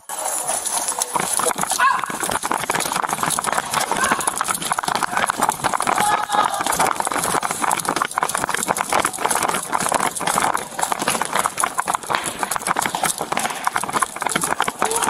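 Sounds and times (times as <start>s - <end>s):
camera and gear jostling: 0.0s - 15.0s
running footsteps on hard floor: 0.0s - 15.0s.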